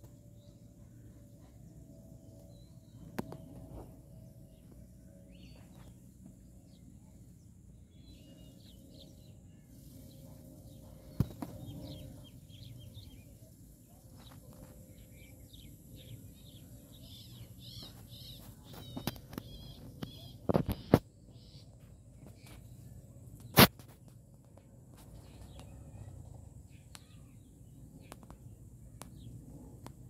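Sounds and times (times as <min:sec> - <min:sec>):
low steady rumble: 0:00.0 - 0:23.4, 0:24.2 - 0:30.0
small birds chirping: 0:00.0 - 0:30.0.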